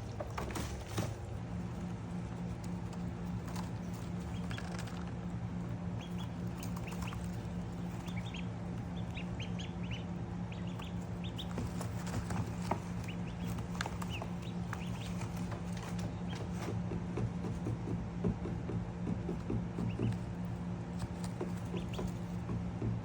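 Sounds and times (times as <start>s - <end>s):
ducklings peeping: 0.0s - 23.0s
steady low hum: 0.0s - 23.0s.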